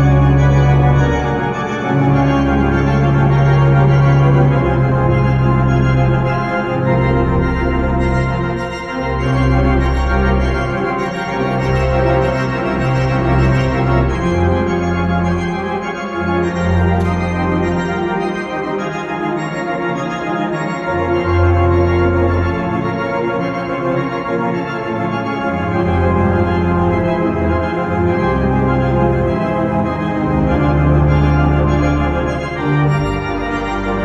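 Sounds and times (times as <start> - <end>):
church organ playing chords: 0.0 - 34.0.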